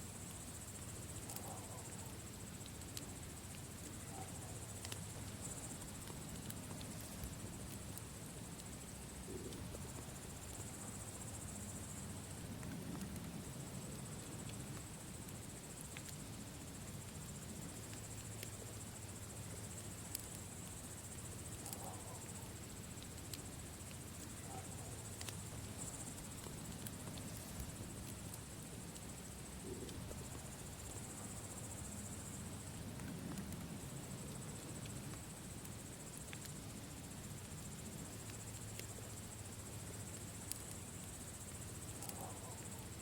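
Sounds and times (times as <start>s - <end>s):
insects chirring: 0.0s - 43.0s
campfire crackling and popping: 0.2s - 42.2s.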